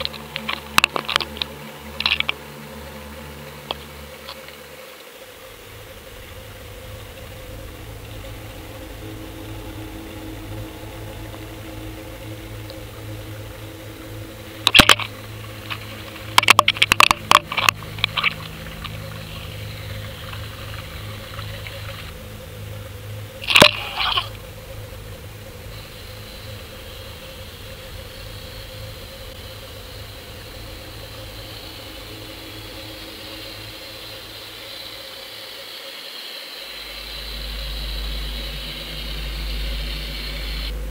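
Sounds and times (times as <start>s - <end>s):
muffled underwater hum: 0.0s - 35.8s, 36.6s - 40.9s
constant hiss: 0.0s - 40.9s
faint steady tones: 0.0s - 40.9s.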